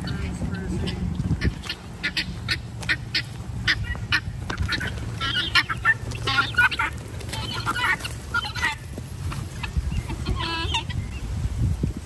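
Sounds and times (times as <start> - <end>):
guinea fowl calling: 0.0 - 11.2.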